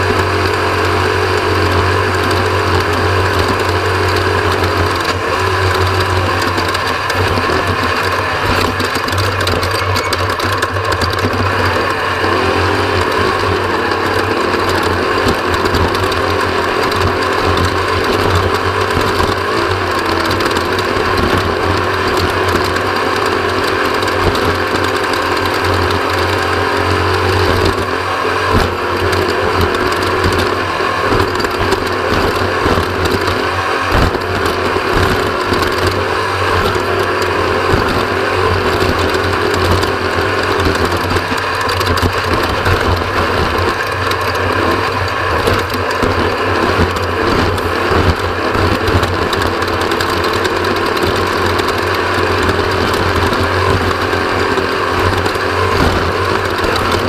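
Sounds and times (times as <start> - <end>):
mechanical rattling and clatter: 0.0 - 57.0
race vehicle engine drone: 0.0 - 57.0.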